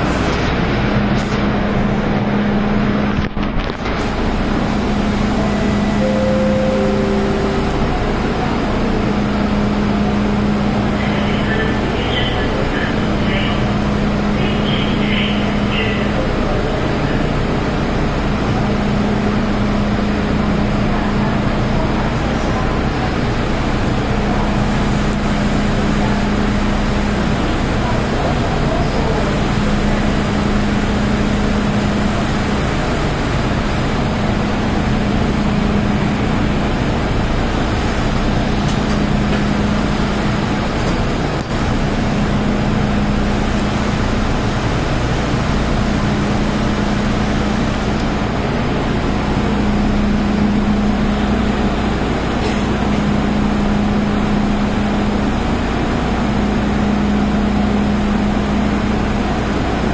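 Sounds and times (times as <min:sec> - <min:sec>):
train equipment humming: 0:00.0 - 0:59.9.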